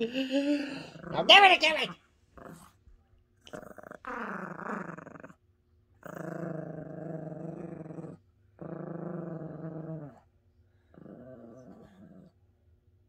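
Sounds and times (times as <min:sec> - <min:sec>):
dog play-growling: 0:00.5 - 0:01.6, 0:02.3 - 0:12.5.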